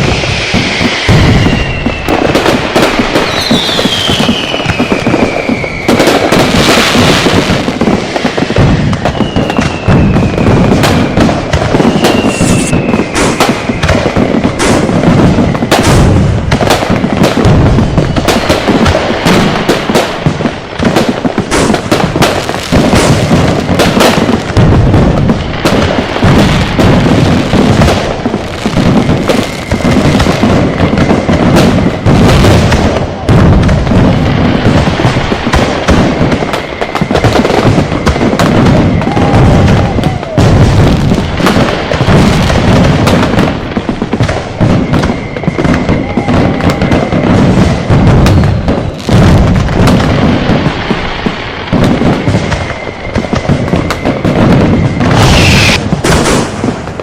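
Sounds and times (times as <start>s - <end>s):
firecrackers banging: 0.0s - 57.0s
whistling fireworks: 0.0s - 57.0s.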